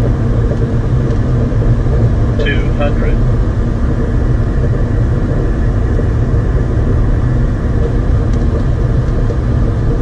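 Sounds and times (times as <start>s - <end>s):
cockpit airflow and engine rumble: 0.0s - 10.0s
faint steady hums: 0.0s - 10.0s.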